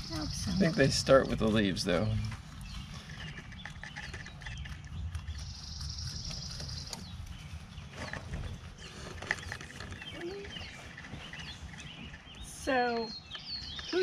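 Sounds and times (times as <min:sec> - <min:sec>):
rabbits chewing greens: 0:00.0 - 0:14.0.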